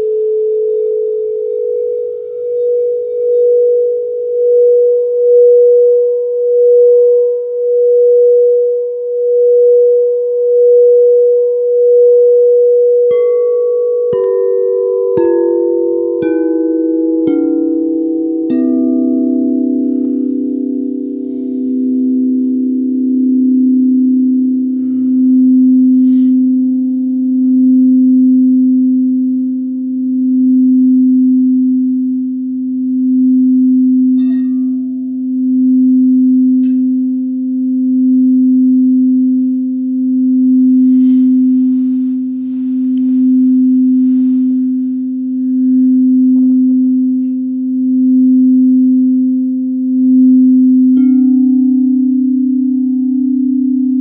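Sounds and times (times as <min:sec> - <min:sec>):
singing bowl tone: 0:00.0 - 0:54.0.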